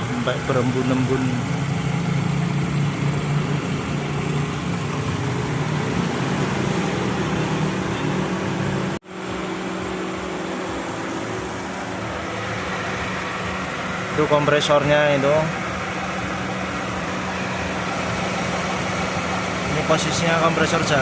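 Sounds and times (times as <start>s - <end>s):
ac compressor running: 0.0s - 21.0s
car engine idling: 0.0s - 21.0s.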